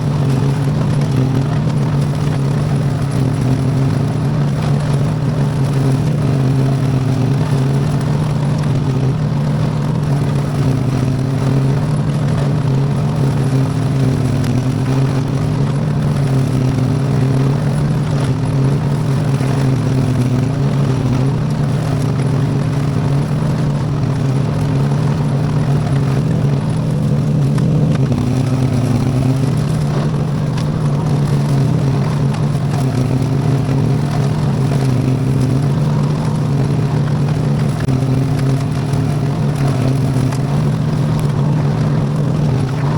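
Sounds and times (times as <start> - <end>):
tractor engine running under load: 0.0 - 42.9.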